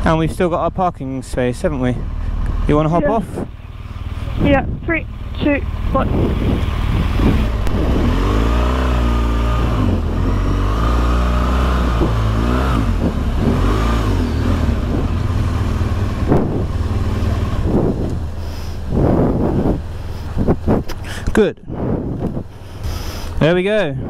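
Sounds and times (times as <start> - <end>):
motorcycle engine revving: 1.0 - 23.8.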